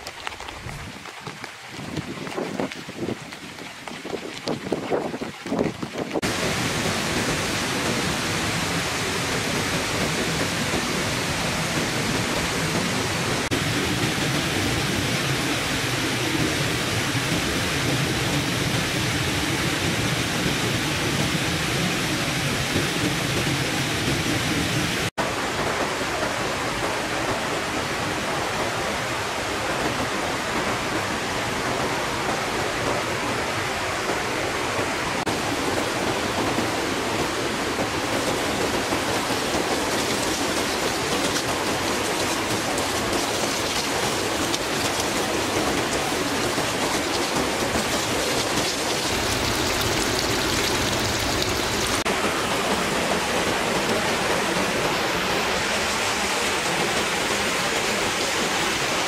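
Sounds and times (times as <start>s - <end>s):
rushing flowing water: 0.0s - 59.0s.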